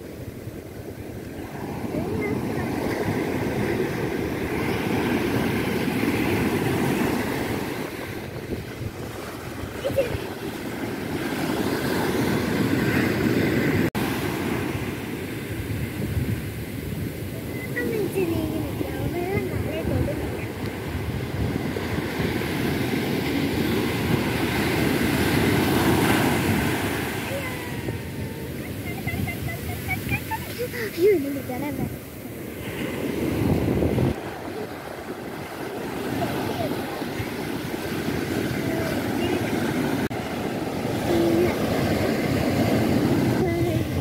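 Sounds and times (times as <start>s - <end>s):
sea surf washing up beach: 0.0s - 44.0s
wind buffeting microphone: 0.0s - 44.0s.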